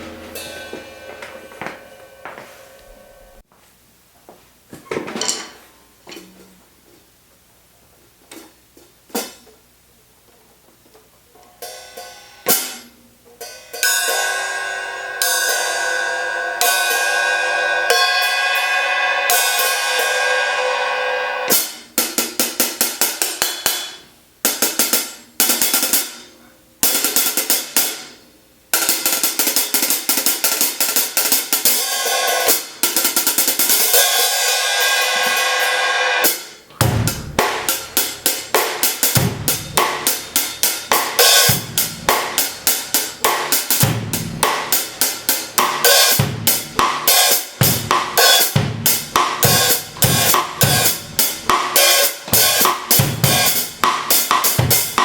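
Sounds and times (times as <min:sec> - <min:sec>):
hi-hat cymbals played: 0:00.0 - 0:03.4, 0:11.6 - 0:55.0.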